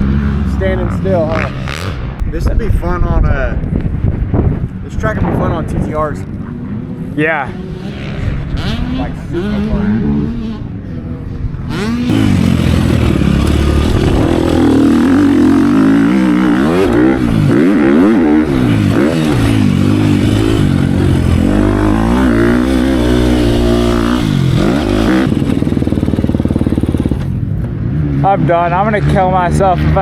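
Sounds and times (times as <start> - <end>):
dirt bike engine revving: 0.0 - 2.2, 6.4 - 10.9, 11.6 - 30.0.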